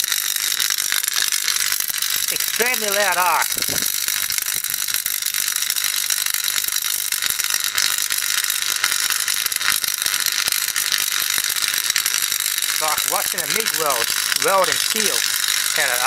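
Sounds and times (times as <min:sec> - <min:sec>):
electric arc crackling: 0:00.0 - 0:16.0.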